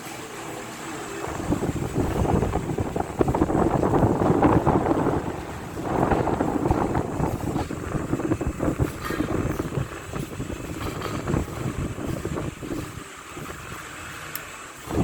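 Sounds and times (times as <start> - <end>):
fan airflow buffeting microphone: 0.0 - 15.0.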